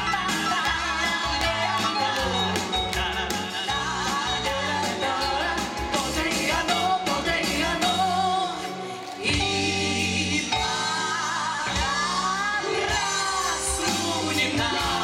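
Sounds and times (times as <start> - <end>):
live pop band playing: 0.0 - 15.0
women singing: 0.0 - 15.0.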